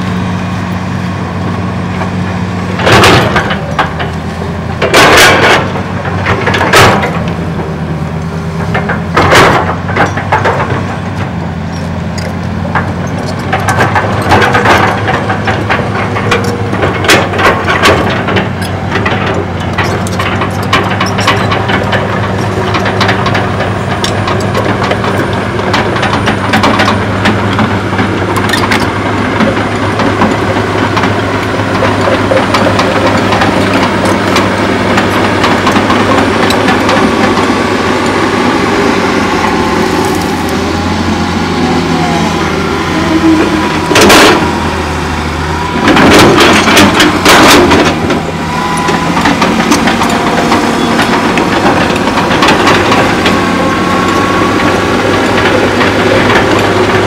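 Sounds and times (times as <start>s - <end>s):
excavator diesel engine running: 0.0s - 57.0s
bucket clanking and scraping rubble: 8.6s - 57.0s.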